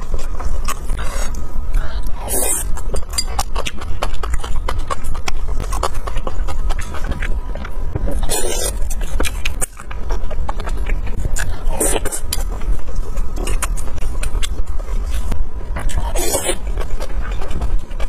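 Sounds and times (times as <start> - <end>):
steady low hum: 0.0 - 18.0
chewing and mouth smacks: 2.6 - 18.0.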